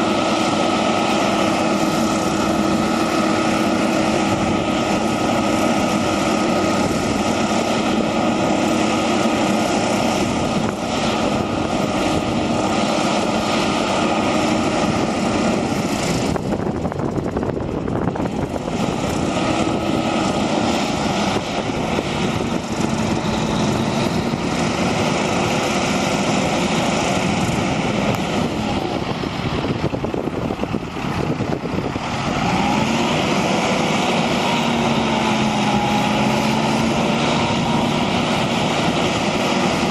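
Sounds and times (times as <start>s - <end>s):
diesel truck engine running: 0.0s - 39.9s
whining tones: 0.0s - 39.9s.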